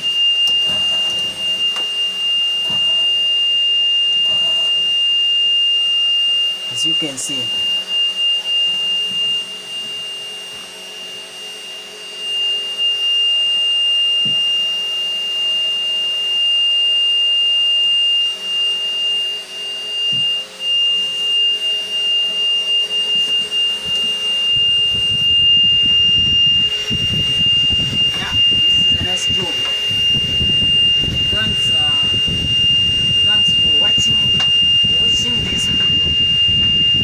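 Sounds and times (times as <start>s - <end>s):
high-pitched warning buzzer: 0.0s - 37.0s.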